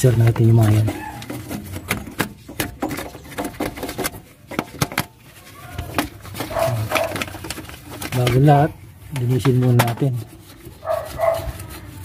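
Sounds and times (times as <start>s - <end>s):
metal rod scraping and knocking: 0.0s - 12.0s.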